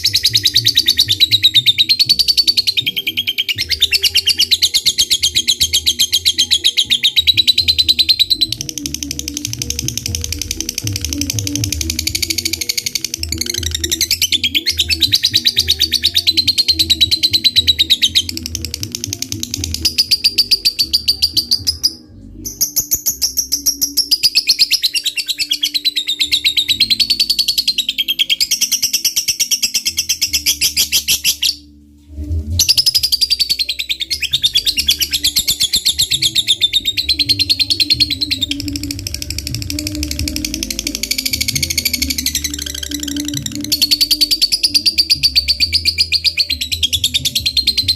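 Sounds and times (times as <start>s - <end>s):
lovebird chattering: 0.0s - 31.6s, 32.6s - 47.9s
background music with low beat: 0.0s - 47.9s.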